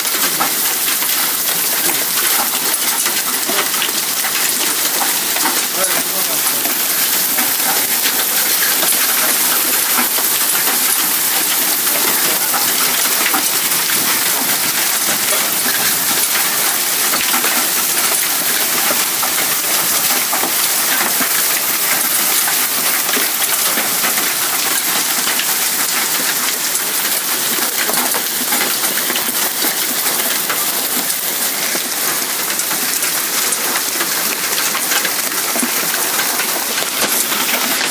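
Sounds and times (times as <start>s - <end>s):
hailstones clattering: 0.0s - 37.9s.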